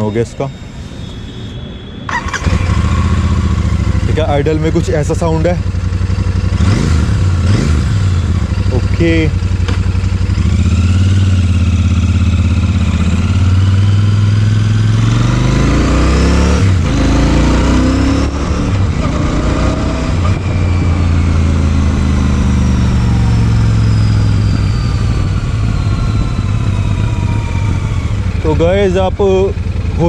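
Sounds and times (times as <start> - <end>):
motorcycle engine pulling away: 2.1 - 4.9, 5.6 - 30.0.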